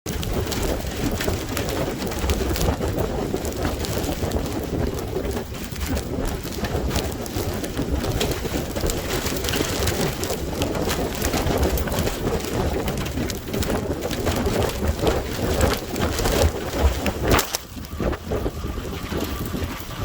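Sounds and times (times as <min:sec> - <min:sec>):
heavy rain: 0:00.1 - 0:18.7
wind rumbling on microphone: 0:00.1 - 0:20.0.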